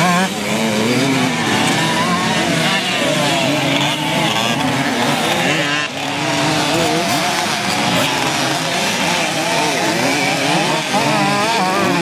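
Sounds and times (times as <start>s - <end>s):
two-stroke moped engines racing: 0.0s - 12.0s.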